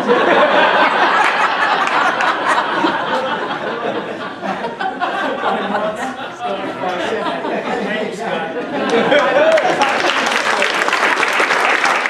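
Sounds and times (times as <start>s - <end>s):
people talking: 0.0s - 11.1s
people laughing: 0.0s - 12.0s.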